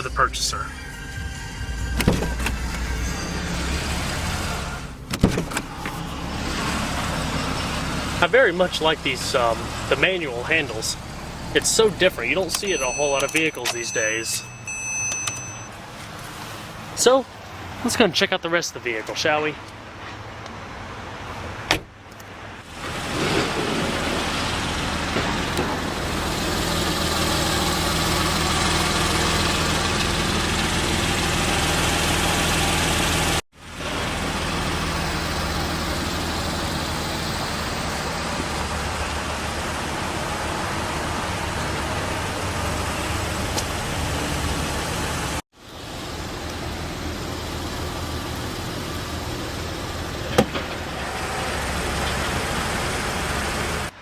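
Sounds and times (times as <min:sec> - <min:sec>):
car engine running: 0:00.0 - 0:16.3, 0:22.6 - 0:53.9.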